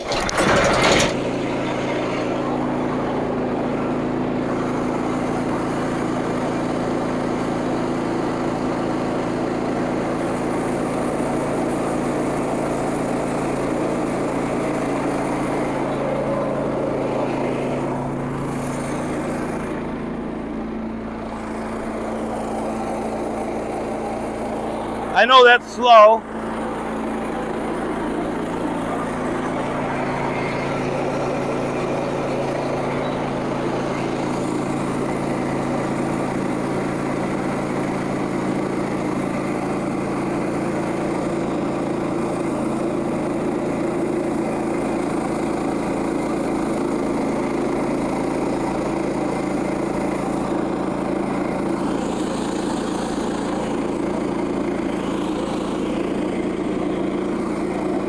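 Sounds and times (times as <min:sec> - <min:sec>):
sawmill gasoline engine running: 0:00.0 - 0:58.0.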